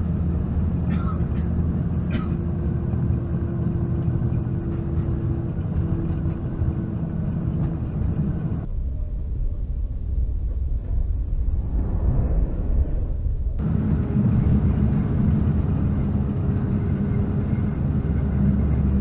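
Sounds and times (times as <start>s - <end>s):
muffled low rumble: 0.0s - 19.0s
vehicle engine and tyre drone: 0.0s - 19.0s.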